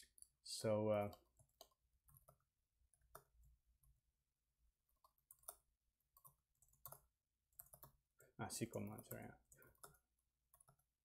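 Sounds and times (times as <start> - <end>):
faint computer keyboard typing: 0.0 - 4.1, 4.7 - 11.0.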